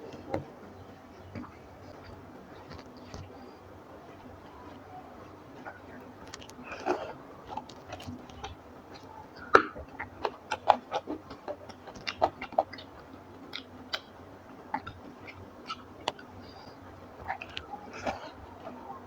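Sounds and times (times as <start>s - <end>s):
chewing mouth clicks and smacks: 1.2s - 3.6s, 4.2s - 19.0s.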